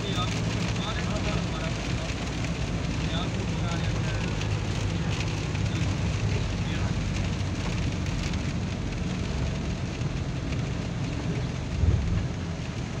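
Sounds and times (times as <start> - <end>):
car cabin rumble: 0.0 - 13.0
rain and tyres on wet road: 0.0 - 13.0.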